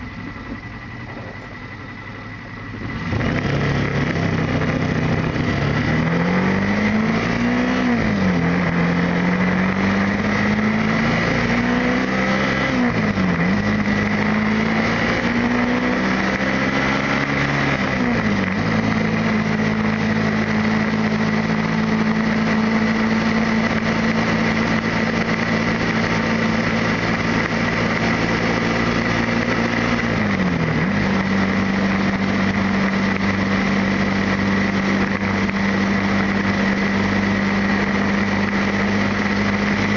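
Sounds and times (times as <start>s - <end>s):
motorcycle engine shifting gears: 0.3s - 39.9s.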